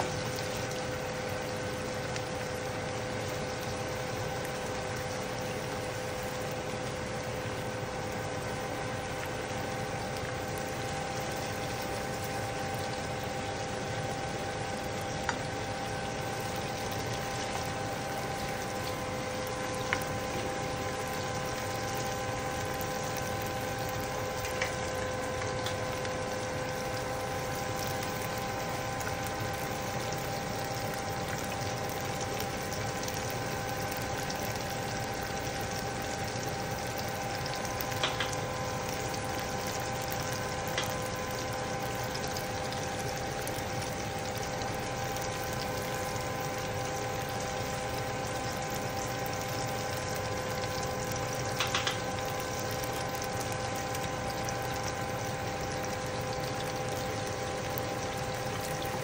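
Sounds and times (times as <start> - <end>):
constant hum: 0.0 - 59.0
food sizzling in a pan: 0.0 - 59.0.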